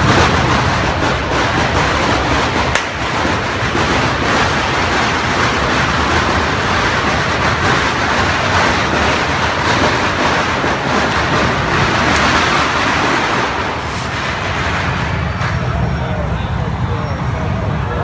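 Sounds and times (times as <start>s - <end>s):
firecrackers crackling: 0.0s - 16.8s.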